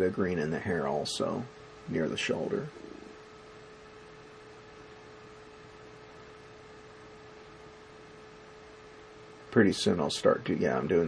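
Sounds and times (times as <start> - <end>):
faint steady hum: 0.0 - 11.0
low even hiss: 0.0 - 11.0.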